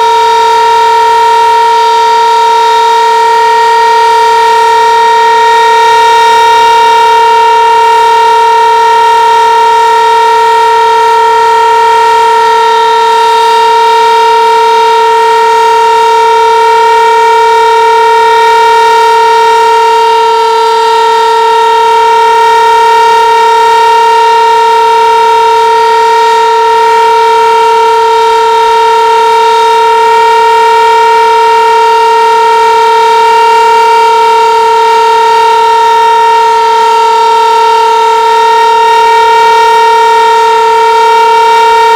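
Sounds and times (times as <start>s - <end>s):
tornado siren steady tone: 0.0s - 41.9s.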